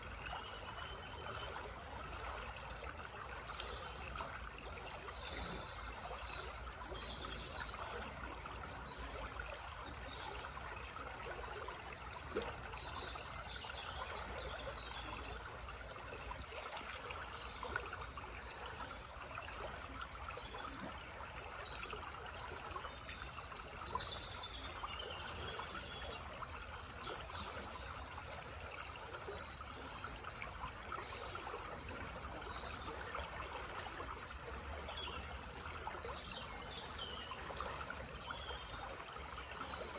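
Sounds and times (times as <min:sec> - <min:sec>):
forest stream babbling: 0:00.0 - 0:39.9
songbirds chirping: 0:00.0 - 0:39.9.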